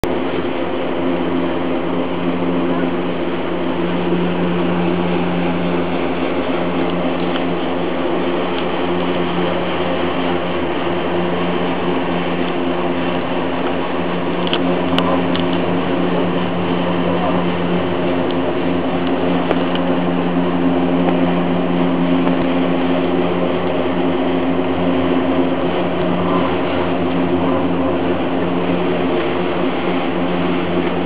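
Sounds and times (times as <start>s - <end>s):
cable car mechanical hum: 0.0s - 31.0s.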